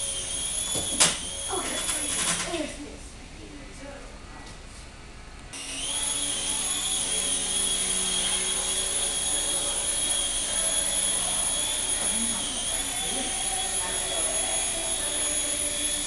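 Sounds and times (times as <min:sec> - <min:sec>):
toy drone motors whining: 0:00.0 - 0:02.5, 0:05.6 - 0:16.0.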